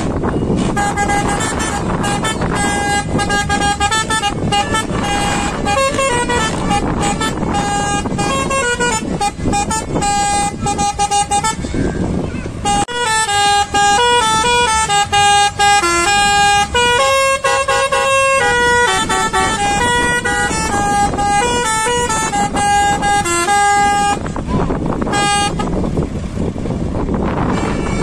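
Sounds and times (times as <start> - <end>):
steady rumble: 0.0 - 28.0
lorry horn playing a tune: 0.1 - 25.9.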